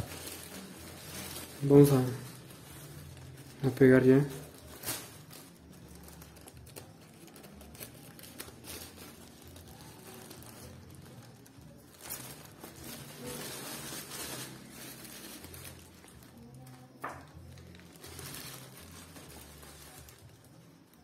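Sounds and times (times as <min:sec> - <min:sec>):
tissue paper rustling and crinkling: 0:00.0 - 0:21.0.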